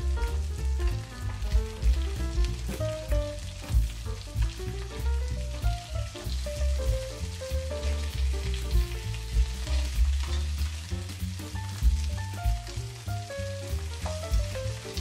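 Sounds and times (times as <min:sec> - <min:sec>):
fish sizzling in a pan: 0:00.0 - 0:15.0
hot oil crackling: 0:00.0 - 0:15.0
music with deep bass: 0:00.0 - 0:15.0.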